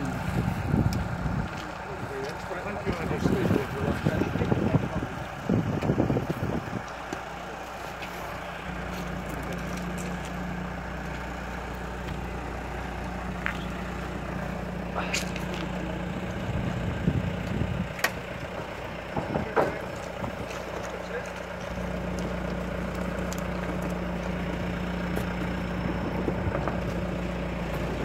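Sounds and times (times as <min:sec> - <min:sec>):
machine engine running under load: 0:00.0 - 0:28.0.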